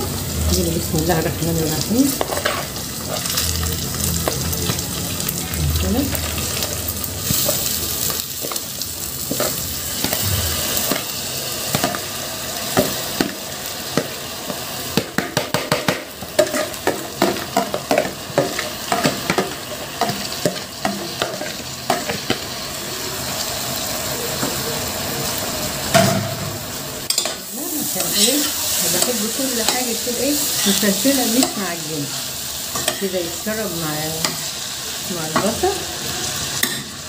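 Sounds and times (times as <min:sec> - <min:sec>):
grain and onions sizzling in pan: 0:00.0 - 0:37.0.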